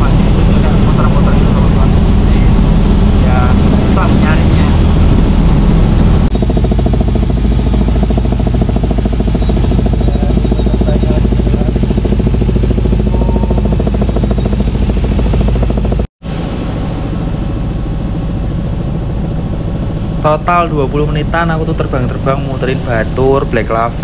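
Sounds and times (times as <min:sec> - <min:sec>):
helicopter rotor drone: 0:00.0 - 0:24.0.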